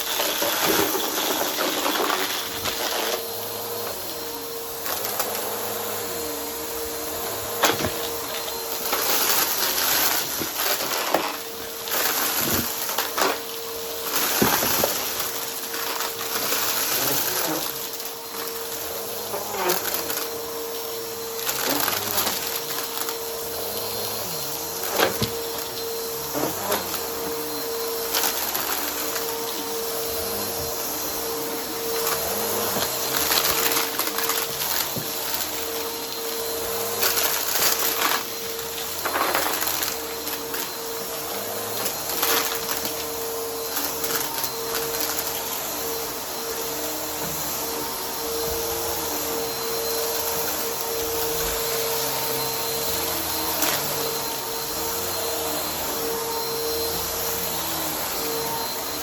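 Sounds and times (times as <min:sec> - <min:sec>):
vacuum cleaner motor whine: 0:00.0 - 0:59.0
debris crackling in vacuum: 0:06.9 - 0:54.8.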